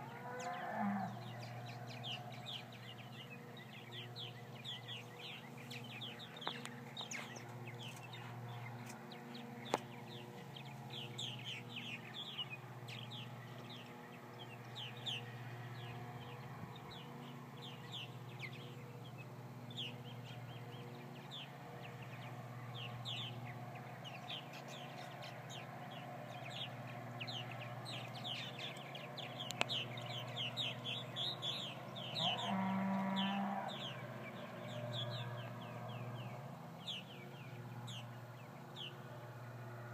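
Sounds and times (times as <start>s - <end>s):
birds chirping: 0.0s - 39.9s
steady low hum: 0.0s - 39.9s.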